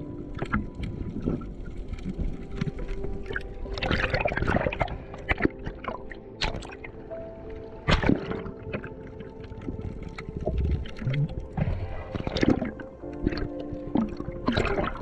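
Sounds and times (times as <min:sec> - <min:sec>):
exhaled bubbles rushing: 0:00.0 - 0:15.0
underwater gurgling and sloshing: 0:00.0 - 0:15.0.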